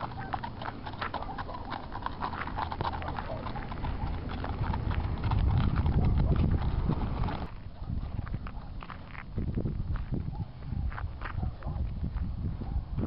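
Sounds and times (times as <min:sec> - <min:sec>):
horse hooves on packed dirt: 0:00.0 - 0:13.0.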